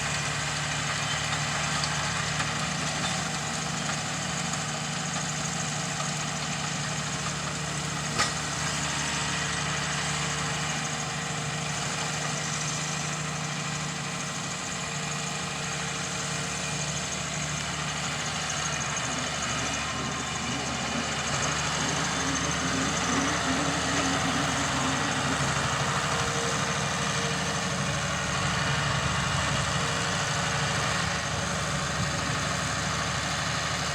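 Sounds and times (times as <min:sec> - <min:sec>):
tractor diesel engine humming: 0:00.0 - 0:33.9.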